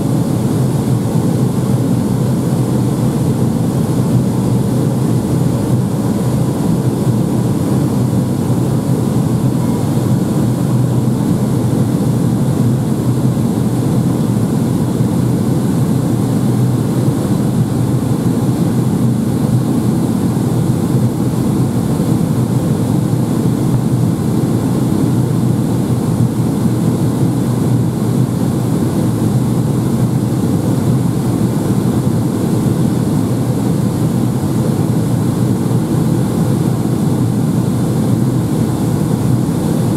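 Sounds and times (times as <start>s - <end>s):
aircraft cabin engine drone: 0.0s - 39.9s
faint steady whine: 0.0s - 39.9s.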